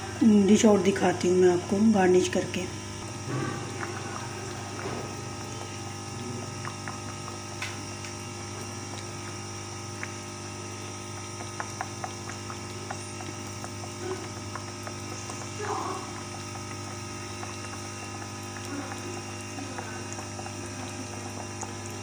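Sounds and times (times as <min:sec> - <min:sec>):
gravy simmering with pops: 0:00.0 - 0:22.0
steady low hum: 0:00.0 - 0:22.0.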